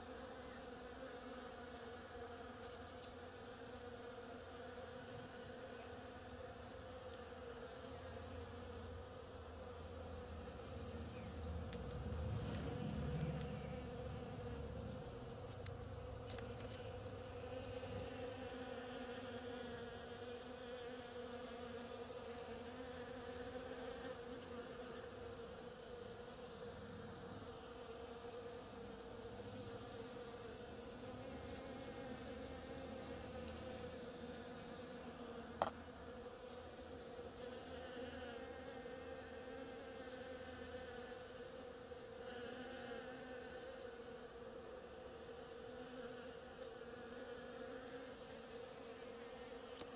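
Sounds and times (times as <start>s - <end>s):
bees buzzing: 0.0s - 49.9s.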